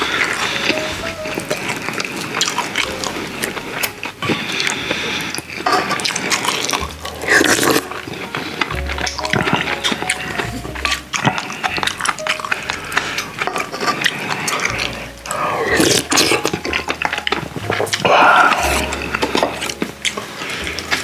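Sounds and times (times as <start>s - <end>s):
chewing and lip smacking: 0.0s - 21.0s
slurping: 0.0s - 21.0s.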